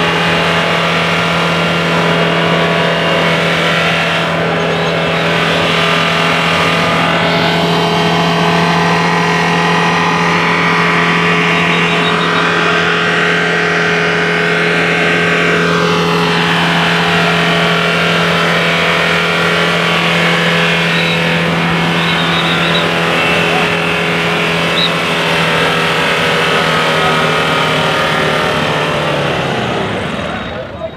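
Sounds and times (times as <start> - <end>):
car engine droning: 0.0 - 30.9
faint sound rising and falling in pitch: 0.0 - 30.9.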